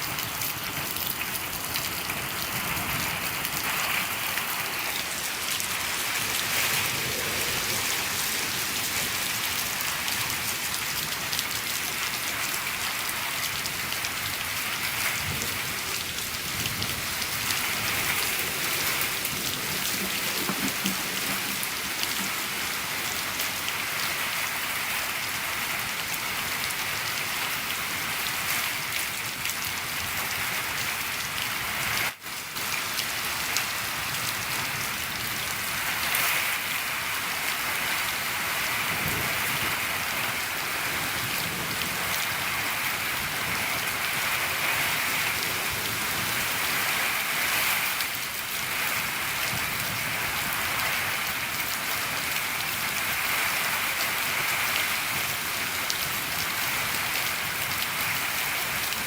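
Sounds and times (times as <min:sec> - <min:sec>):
rain on a shed roof: 0:00.0 - 0:59.0.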